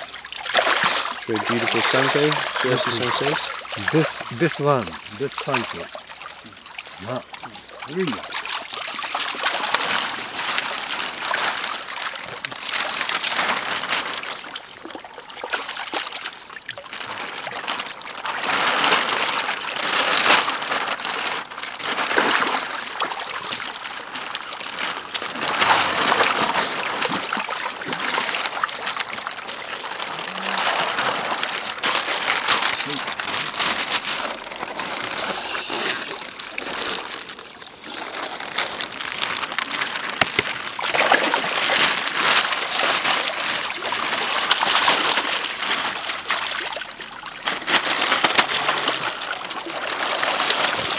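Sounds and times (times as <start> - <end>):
water splashing and sloshing: 0.0 - 50.9.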